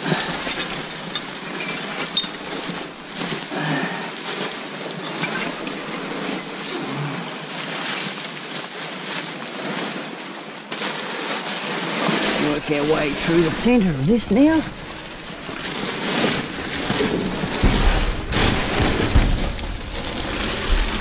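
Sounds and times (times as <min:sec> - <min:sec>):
plastic bags and bubble wrap rustling: 0:00.0 - 0:21.0.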